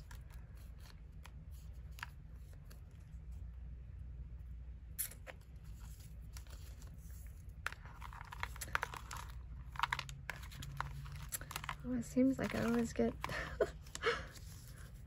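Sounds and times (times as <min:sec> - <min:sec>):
paper stickers rustling and crinkling: 0:00.0 - 0:03.5, 0:05.1 - 0:15.0.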